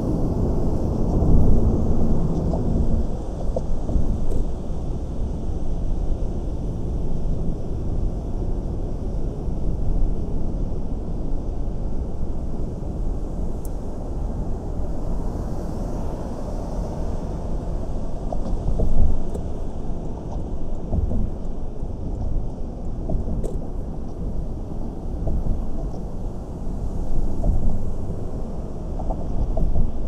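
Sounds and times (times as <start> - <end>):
car driving low rumble: 0.0 - 30.0.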